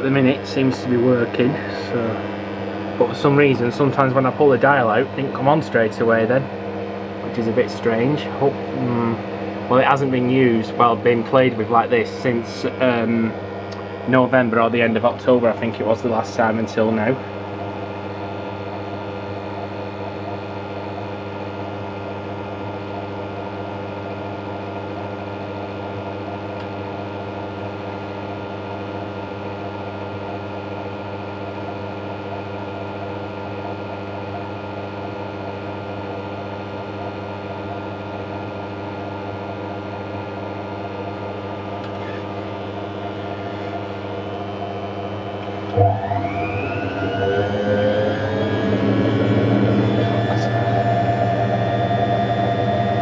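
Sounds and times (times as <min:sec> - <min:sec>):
washing machine motor spinning: 0:00.0 - 0:53.0.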